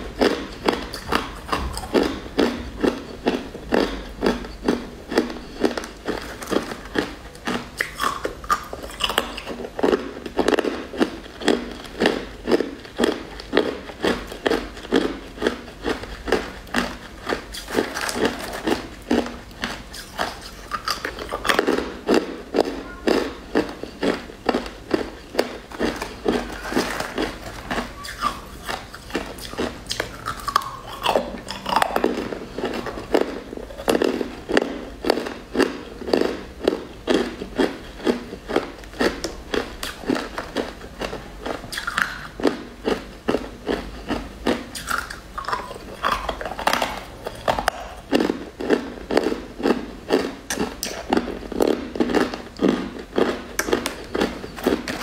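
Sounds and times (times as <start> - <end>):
crunching sugar candy: 0.0 - 55.0.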